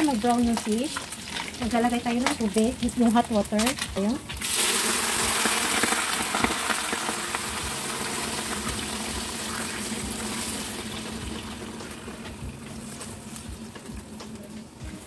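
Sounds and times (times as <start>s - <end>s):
water hissing in a hot wok: 0.0s - 13.7s.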